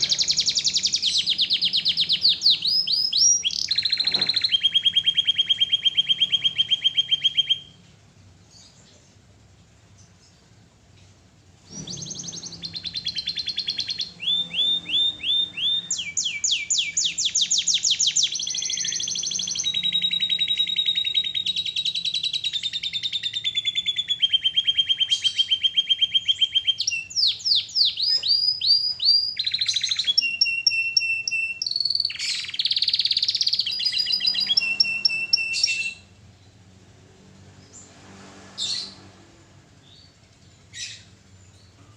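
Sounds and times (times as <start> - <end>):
canary singing trills: 0.0 - 9.2, 11.6 - 38.0, 38.6 - 41.9.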